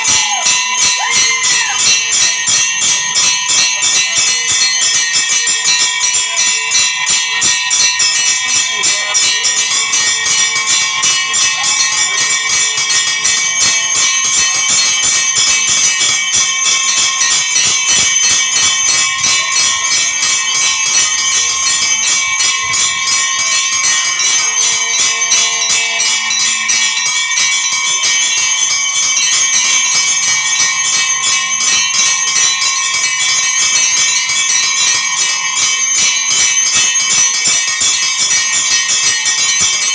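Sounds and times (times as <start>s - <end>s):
temple bells ringing: 0.0s - 39.9s.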